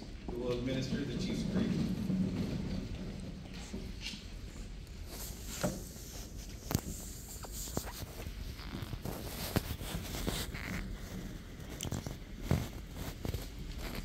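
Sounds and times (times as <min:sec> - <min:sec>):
footsteps: 0:00.1 - 0:14.0
clothing rustle: 0:00.4 - 0:14.0.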